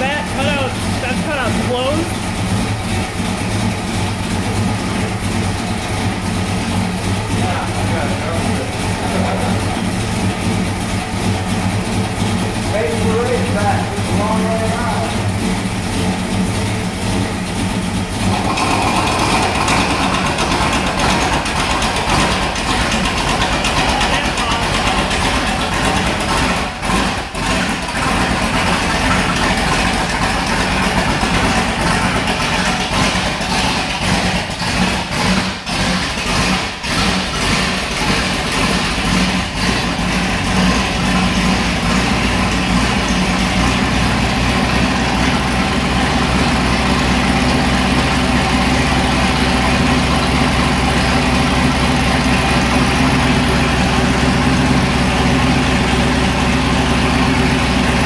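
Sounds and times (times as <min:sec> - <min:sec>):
car engine idling unevenly: 0:00.0 - 0:58.0.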